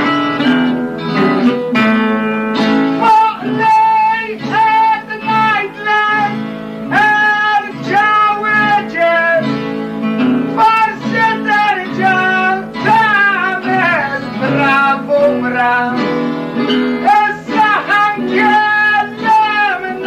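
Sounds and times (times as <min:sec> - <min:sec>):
plucked guitars: 0:00.0 - 0:20.0
high singing voice: 0:03.0 - 0:09.8, 0:10.5 - 0:20.0.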